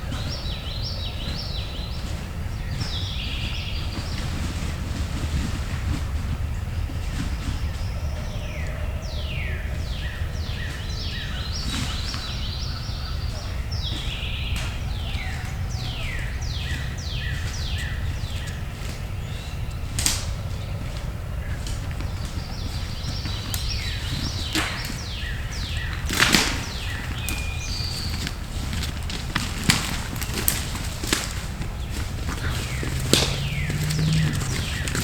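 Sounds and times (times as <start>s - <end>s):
songbirds whistling: 0.0s - 35.0s
wind rumble on microphone: 0.0s - 35.0s.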